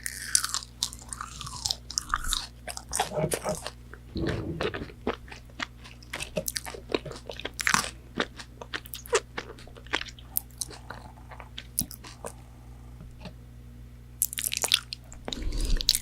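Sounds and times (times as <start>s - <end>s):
person chewing crispy food: 0.0s - 13.3s, 14.2s - 16.0s.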